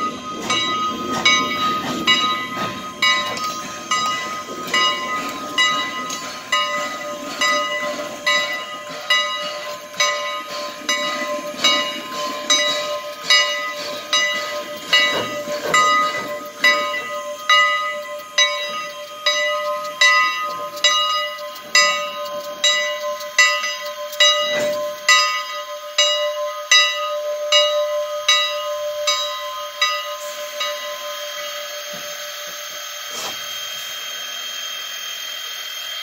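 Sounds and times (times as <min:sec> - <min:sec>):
locomotive bell ringing: 0:00.0 - 0:35.0
steam hiss: 0:00.0 - 0:36.0.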